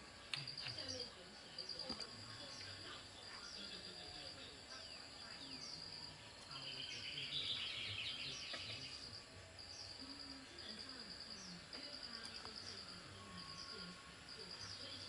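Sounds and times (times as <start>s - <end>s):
birds chirping: 0.0s - 15.0s
insects trilling: 0.0s - 15.0s.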